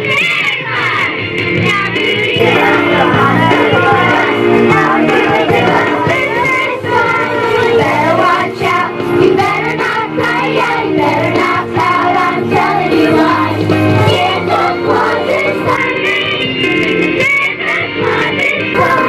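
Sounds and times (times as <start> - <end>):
children's choir singing: 0.0 - 19.0
instrumental accompaniment: 0.6 - 19.0.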